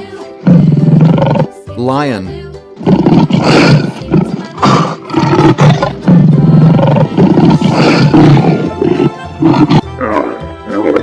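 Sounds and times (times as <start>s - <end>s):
lion roaring: 0.4s - 1.5s, 2.8s - 11.0s.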